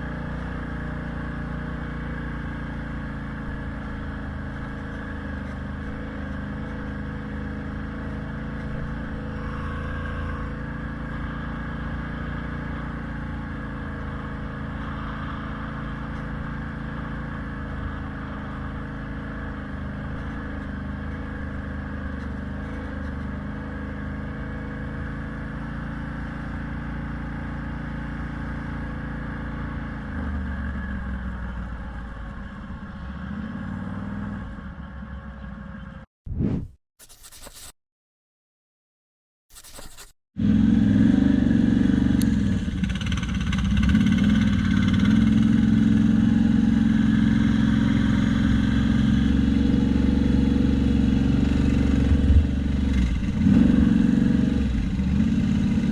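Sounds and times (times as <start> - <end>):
vehicle engine running: 0.0 - 36.0, 39.5 - 55.9.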